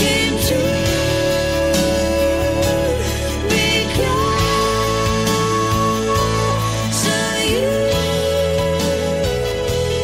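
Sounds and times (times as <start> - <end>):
held melody over bass notes: 0.0 - 10.0.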